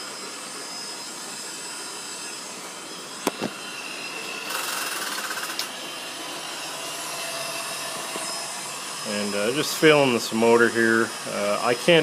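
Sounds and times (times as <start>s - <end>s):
surface grinder humming: 0.0s - 12.0s.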